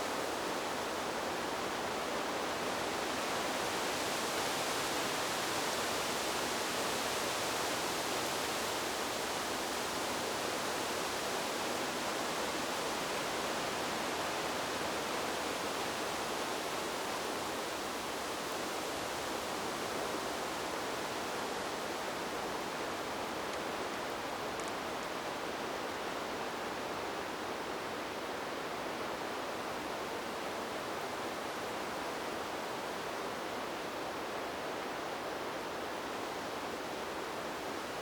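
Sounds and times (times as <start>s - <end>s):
wind blowing through trees: 0.0s - 38.0s.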